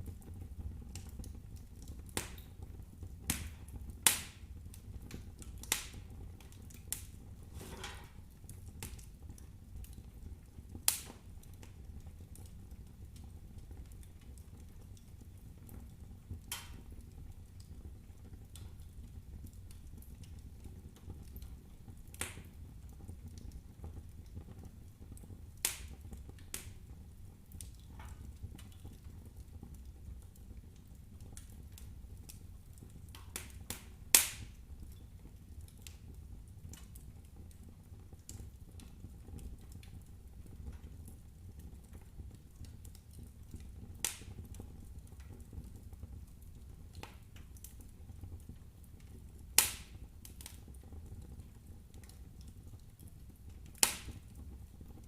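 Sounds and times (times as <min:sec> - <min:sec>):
fire crackling and popping: 0:00.0 - 0:55.0
low rumble of fire: 0:00.0 - 0:55.0.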